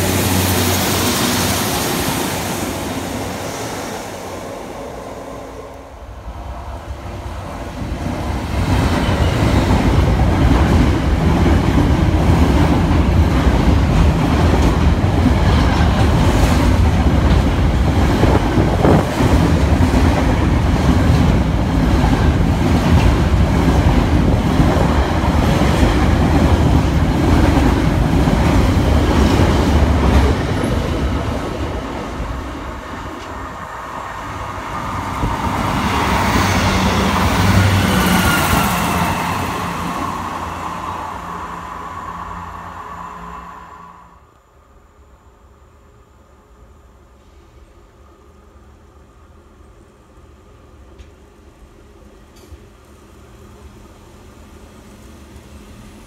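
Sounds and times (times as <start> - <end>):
diesel train approaching: 0.0 - 56.0.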